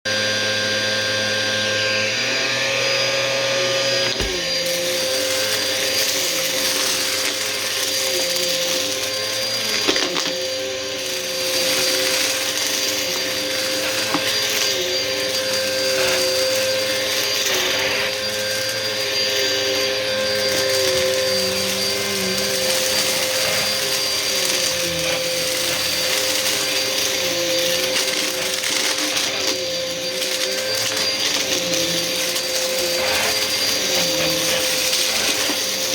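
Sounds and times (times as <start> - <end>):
vacuum cleaner motor whine: 0.1 - 35.9.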